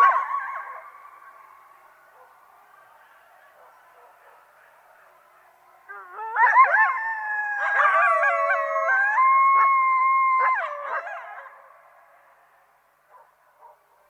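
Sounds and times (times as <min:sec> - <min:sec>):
coyotes howling and yipping: 0:00.0 - 0:14.0.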